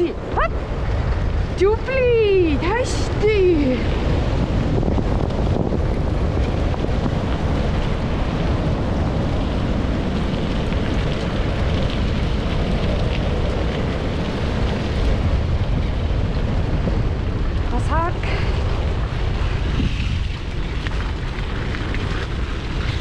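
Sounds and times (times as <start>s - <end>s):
wind noise on microphone: 0.0s - 23.0s
rig rolling over dirt road: 3.0s - 23.0s.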